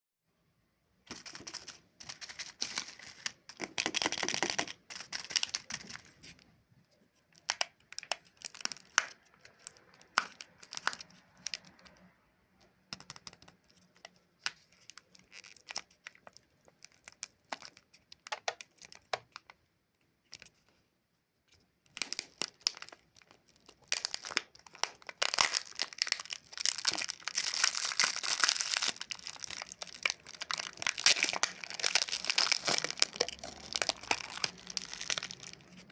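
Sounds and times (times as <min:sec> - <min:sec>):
lollipop wrapper crinkling: 0:01.1 - 0:06.4, 0:07.3 - 0:12.1, 0:13.0 - 0:19.6, 0:21.9 - 0:35.9.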